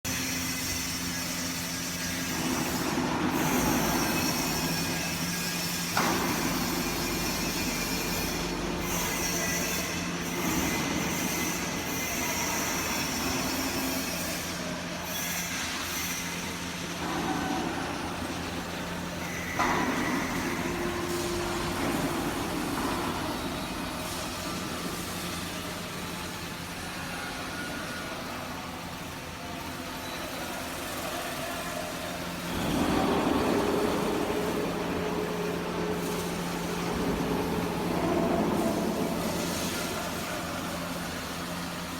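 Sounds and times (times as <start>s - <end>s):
machinery hum and rumble: 0.1s - 41.9s.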